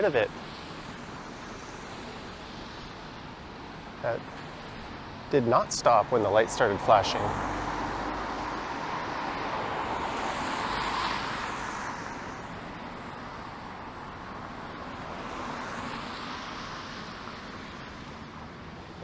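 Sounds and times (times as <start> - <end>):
cars passing on wet road: 0.0 - 19.0.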